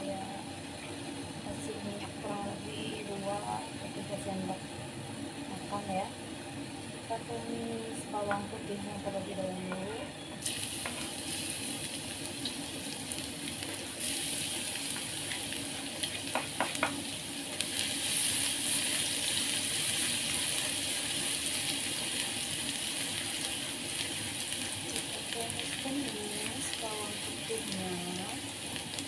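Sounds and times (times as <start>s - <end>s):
garlic sizzling in oil: 0.0s - 29.0s.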